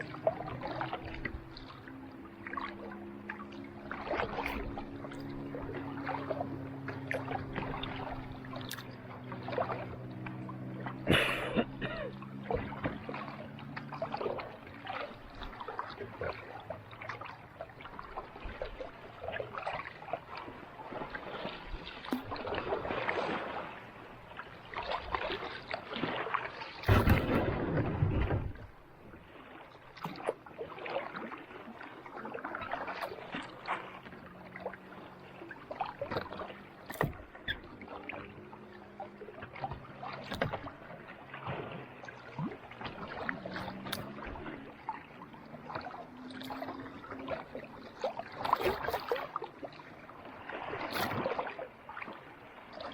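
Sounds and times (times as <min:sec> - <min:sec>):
deep rush of water: 0:00.0 - 0:52.9
paddle strokes splashing water: 0:00.0 - 0:52.9.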